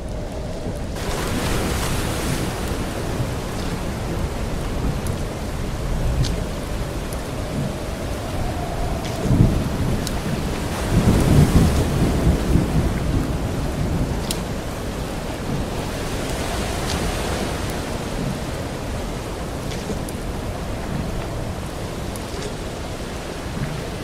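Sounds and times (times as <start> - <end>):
low rolling thunder: 0.0 - 24.0
steady rain hissing: 0.0 - 24.0.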